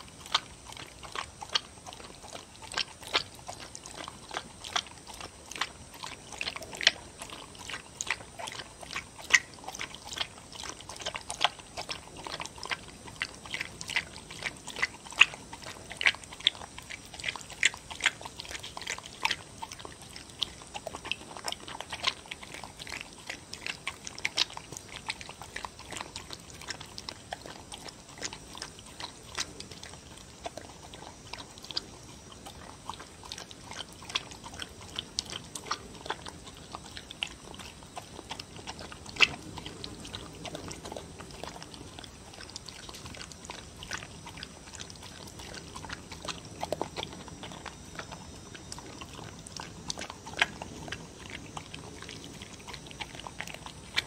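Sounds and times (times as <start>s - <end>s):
dog chewing and smacking: 0.0s - 54.0s.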